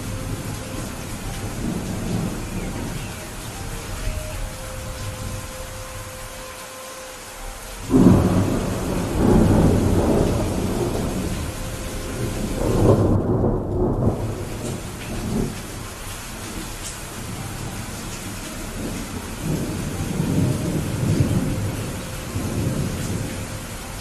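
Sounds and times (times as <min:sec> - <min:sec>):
thunder rumbling: 0:00.0 - 0:06.5, 0:07.7 - 0:24.0
steady rain: 0:00.0 - 0:24.0.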